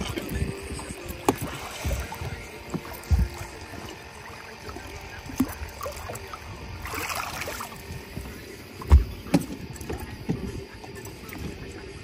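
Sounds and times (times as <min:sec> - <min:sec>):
water splashing: 0:00.0 - 0:11.8.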